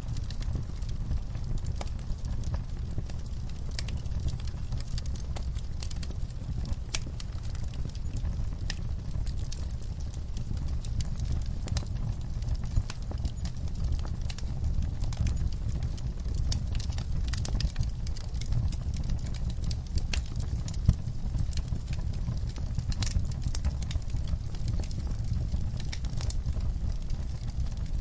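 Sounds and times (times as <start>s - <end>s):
low steady rumble: 0.0s - 28.0s
wood fire crackling and popping: 0.0s - 28.0s.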